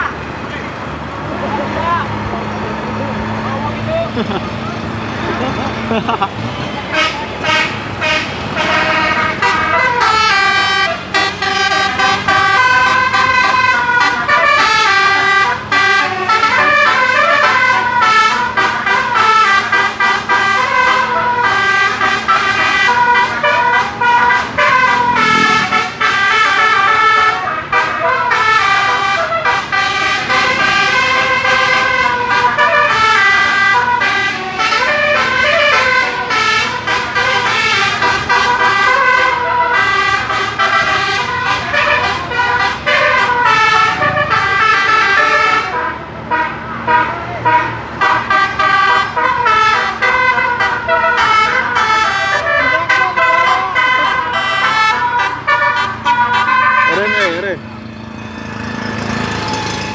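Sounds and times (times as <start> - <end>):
multi-tone bus horn melody: 1.4 - 59.9.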